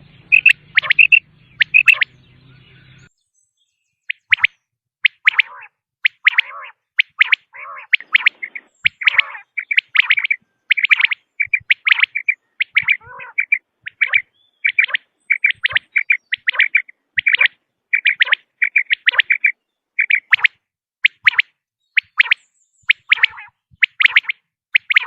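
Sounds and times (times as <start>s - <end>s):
quail calling: 0.0s - 3.1s, 4.1s - 25.0s.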